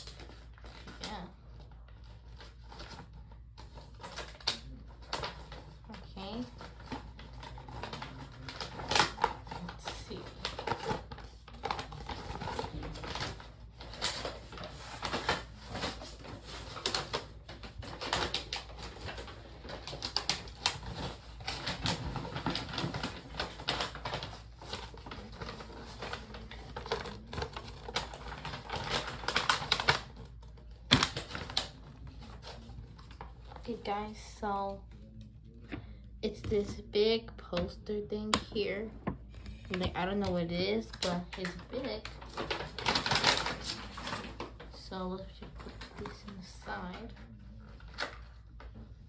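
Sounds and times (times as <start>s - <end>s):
plastic packaging crinkling: 0.0s - 35.6s, 37.4s - 49.0s.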